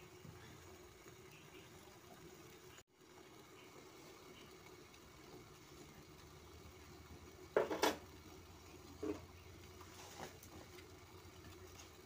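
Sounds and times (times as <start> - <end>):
water boiling in a pot: 0.0 - 12.0.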